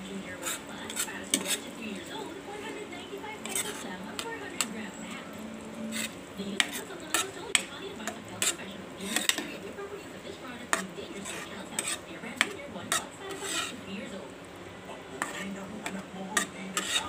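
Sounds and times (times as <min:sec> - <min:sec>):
utensil stirring pasta in a pan: 0:00.0 - 0:17.0.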